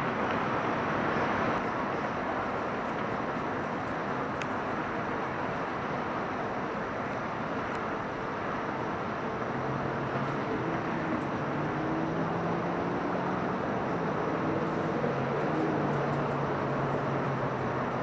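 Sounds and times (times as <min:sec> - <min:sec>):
diesel locomotive engine hum: 0:00.0 - 0:18.0.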